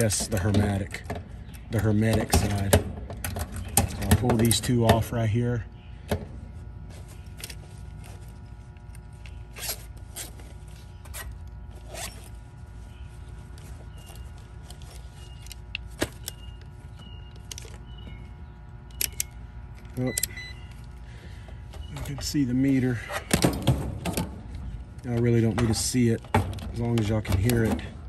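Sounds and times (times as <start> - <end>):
clicks and rustles of wires: 0.0 - 5.2, 6.6 - 28.0
faint steady hum: 0.0 - 28.0.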